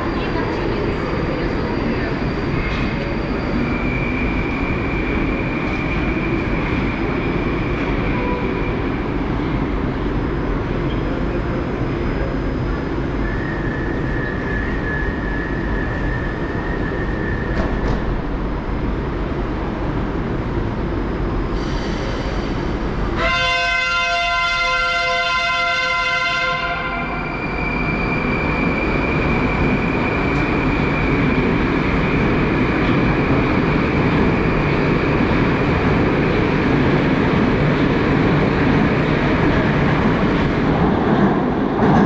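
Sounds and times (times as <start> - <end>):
train running noise: 0.0 - 42.0.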